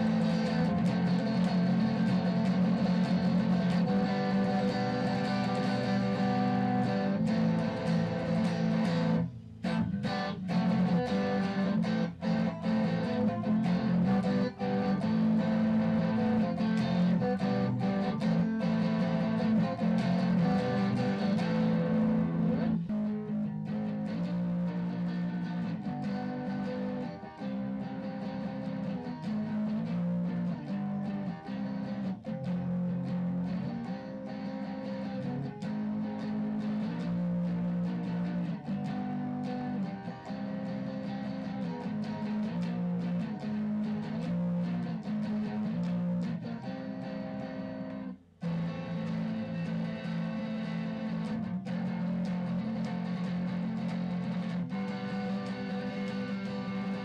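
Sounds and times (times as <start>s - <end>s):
electric guitar playing: 0.0s - 57.0s
rock song: 0.0s - 57.0s.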